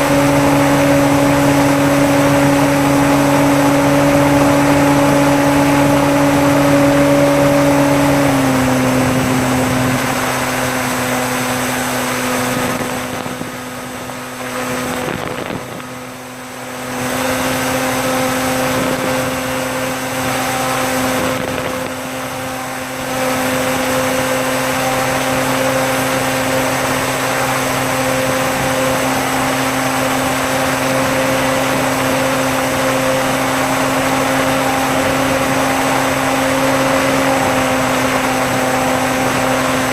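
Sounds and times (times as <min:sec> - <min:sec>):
electric motor and propeller humming: 0:00.0 - 0:39.9.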